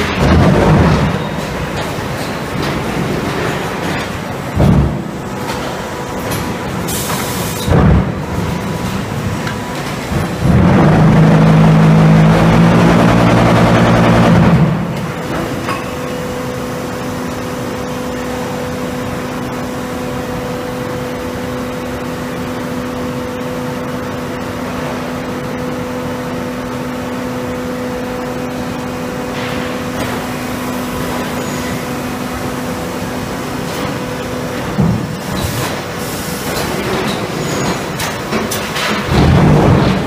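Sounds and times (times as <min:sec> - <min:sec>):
machinery hum: 0:00.0 - 0:40.0.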